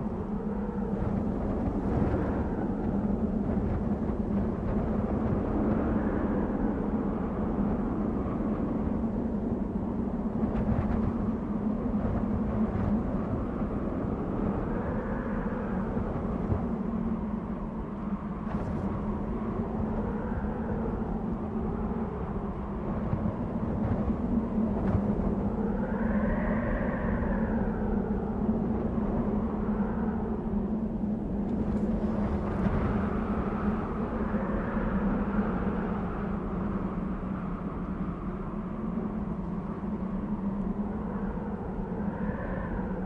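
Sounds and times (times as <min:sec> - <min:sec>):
whistling wind: 0:00.0 - 0:43.0.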